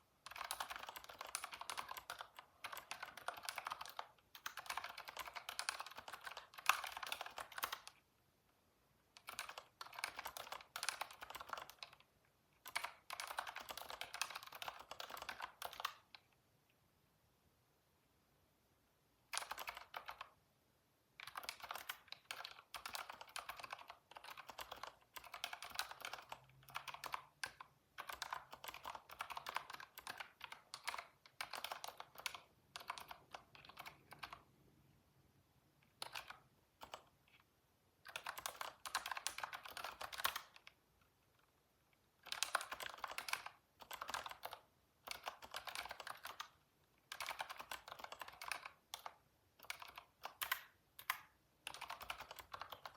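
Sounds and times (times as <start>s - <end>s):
typing on computer keyboard: 0.2s - 8.0s, 9.1s - 16.2s, 19.3s - 20.4s, 21.2s - 34.5s, 35.9s - 37.2s, 38.0s - 40.8s, 42.2s - 52.9s.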